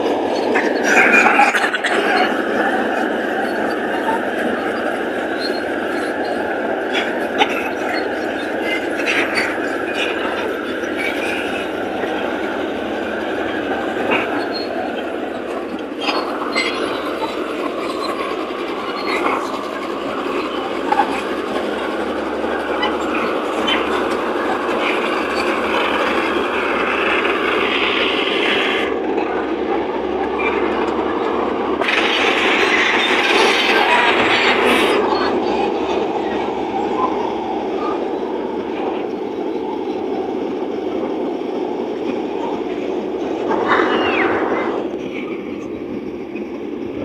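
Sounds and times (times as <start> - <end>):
diesel engine under load: 0.0 - 47.0
steel tracks clanking and squealing: 0.0 - 47.0.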